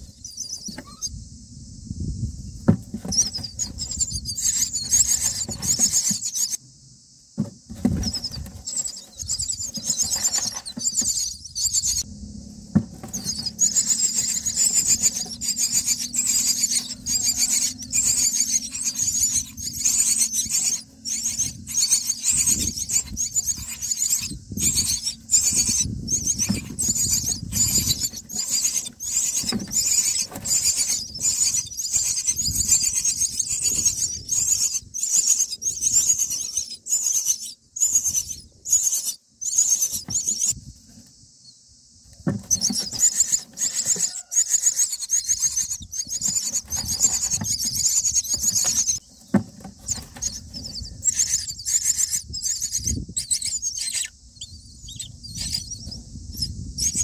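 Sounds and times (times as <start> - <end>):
nestlings squeaking: 0.0 - 1.1, 2.7 - 6.6, 7.4 - 40.6, 42.1 - 57.0.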